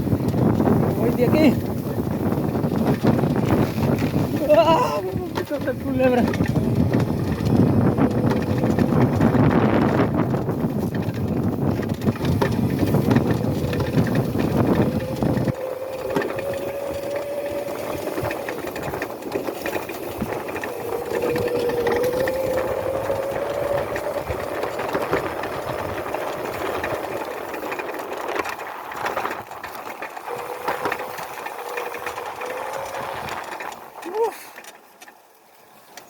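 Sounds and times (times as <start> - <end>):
wind on microphone: 0.0 - 34.3
electric motor whining: 0.3 - 28.2, 30.2 - 34.3.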